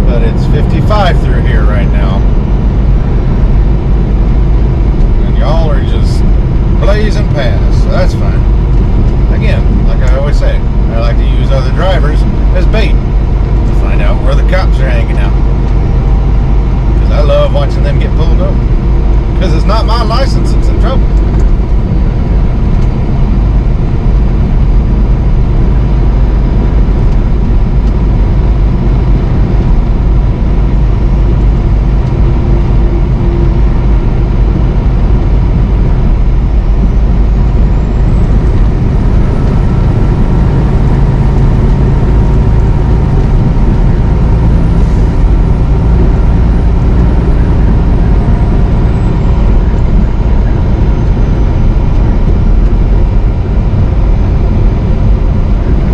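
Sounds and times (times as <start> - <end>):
faint high whine: 0.0 - 55.9
road noise: 0.0 - 55.9
truck engine drone: 0.0 - 55.9.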